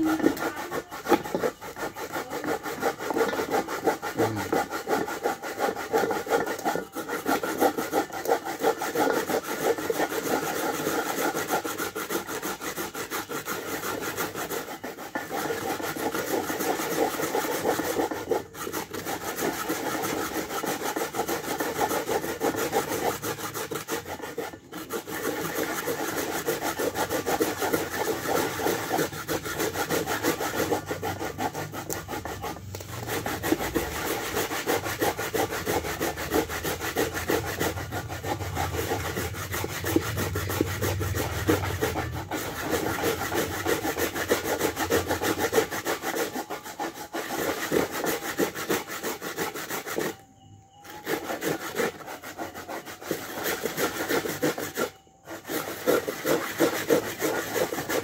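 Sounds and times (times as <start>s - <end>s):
coconut grated by hand: 0.0s - 58.0s.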